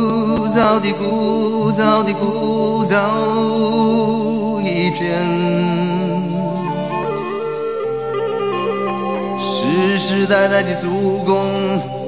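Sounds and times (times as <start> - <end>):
gliding melody over sustained chords: 0.0 - 12.0.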